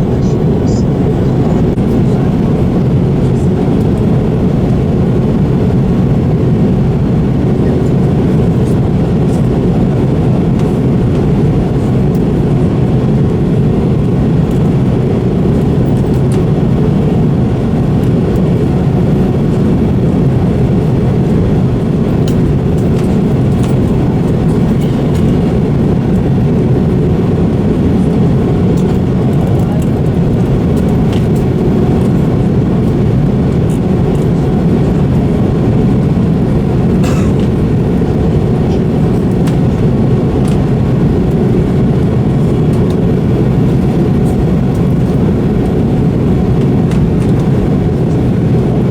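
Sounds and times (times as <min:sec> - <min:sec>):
jet engines droning: 0:00.0 - 0:48.9.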